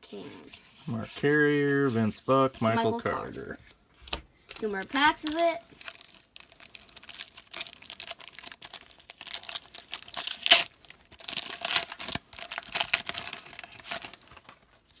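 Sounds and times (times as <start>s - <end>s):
card pack wrappers crinkling and ripping: 0.9s - 15.0s.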